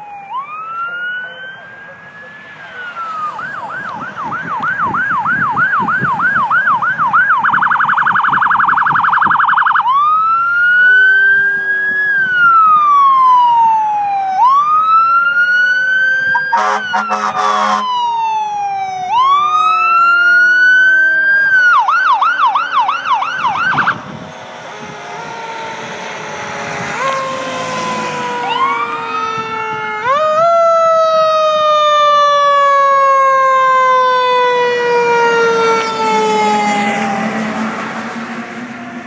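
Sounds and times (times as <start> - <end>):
siren wailing and yelping: 0.0 - 38.3.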